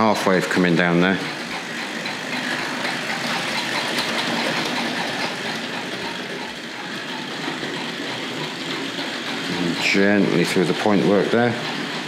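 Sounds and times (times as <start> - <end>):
wheels clicking over rail joints: 0.0 - 12.0
model train motor whirring: 0.8 - 12.0.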